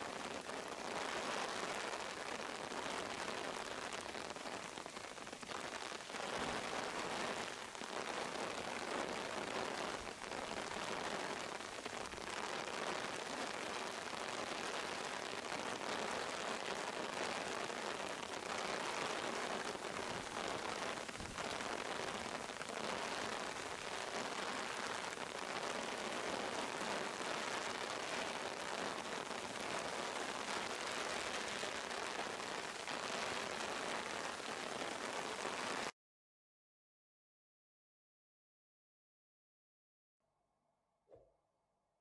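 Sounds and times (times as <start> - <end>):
heavy rain on a pond: 0.0 - 35.9.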